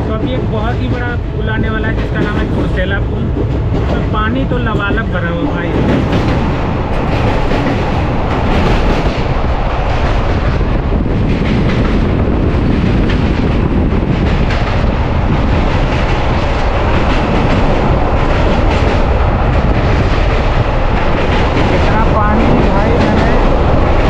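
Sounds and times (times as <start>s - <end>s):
rapid rail clatter: 0.0s - 24.0s
train wheels rumbling on bridge: 0.0s - 24.0s.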